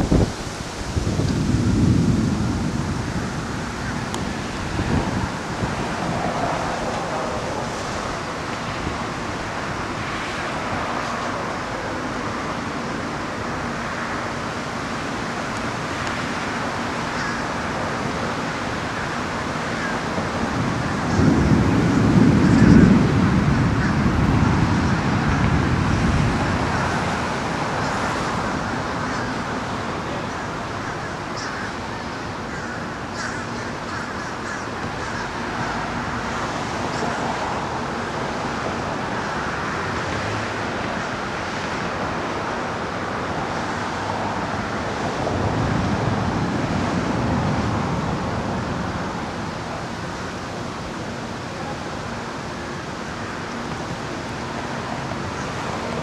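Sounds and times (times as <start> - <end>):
wind buffeting microphone: 0.0 - 56.0
wind rushing through trees: 0.0 - 56.0.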